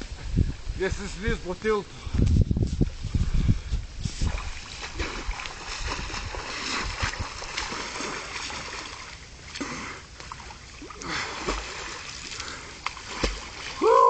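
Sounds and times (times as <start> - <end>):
water splashing and sloshing: 2.7 - 14.0.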